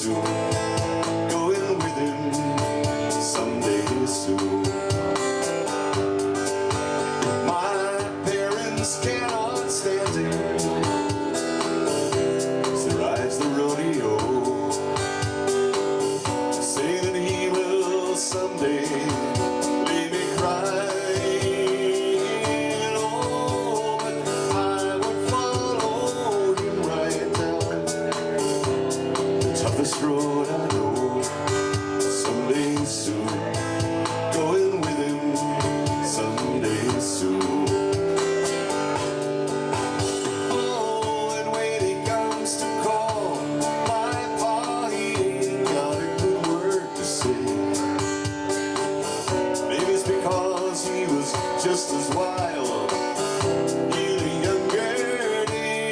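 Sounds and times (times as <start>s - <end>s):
man singing: 0.0s - 55.9s
strummed guitar: 0.0s - 55.9s.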